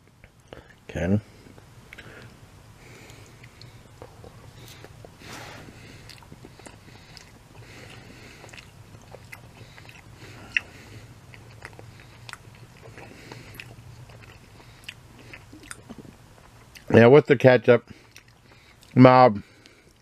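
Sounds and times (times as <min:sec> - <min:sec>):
low steady hum: 0:00.0 - 0:20.0
person chewing food: 0:01.5 - 0:16.9, 0:17.9 - 0:20.0.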